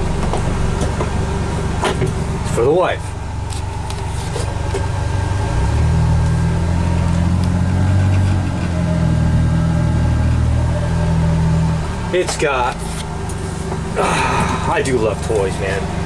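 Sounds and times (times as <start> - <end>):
utility vehicle engine droning: 0.0 - 16.0.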